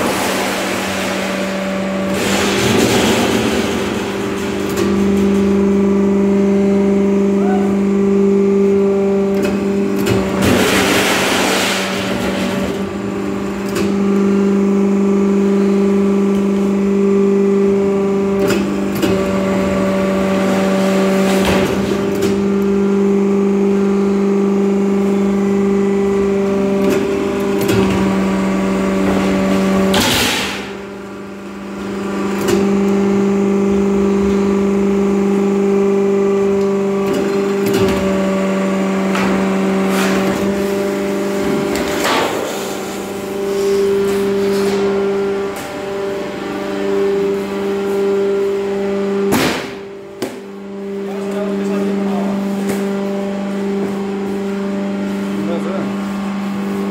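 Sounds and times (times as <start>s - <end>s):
bending press motor hum: 0.0s - 56.9s.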